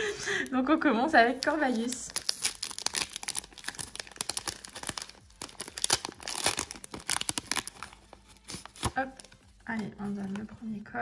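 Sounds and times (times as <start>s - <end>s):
foil wrapper tearing and crinkling: 1.3s - 10.3s.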